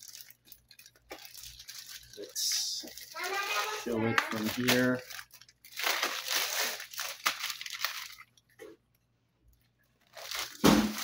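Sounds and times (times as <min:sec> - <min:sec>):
plastic packaging crinkling: 0:00.0 - 0:08.6, 0:09.8 - 0:11.0.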